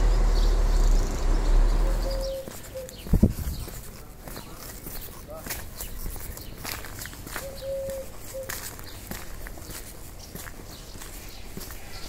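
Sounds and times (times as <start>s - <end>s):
footsteps on a path: 1.7s - 12.0s.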